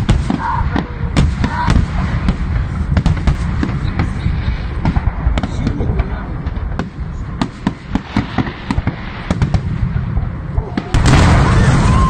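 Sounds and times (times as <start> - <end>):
fireworks cracking: 0.0 - 12.0
low rumble: 0.0 - 12.0.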